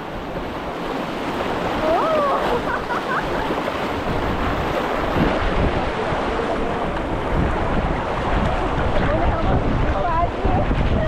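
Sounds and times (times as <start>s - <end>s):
river water rushing and splashing: 0.0s - 11.0s
wind buffeting microphone: 0.0s - 11.0s.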